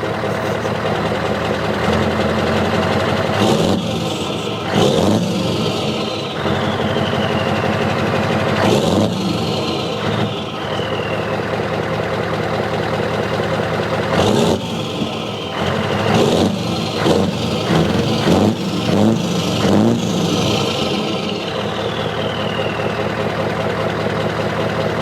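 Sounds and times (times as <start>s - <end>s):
model engine hum: 0.0s - 25.0s.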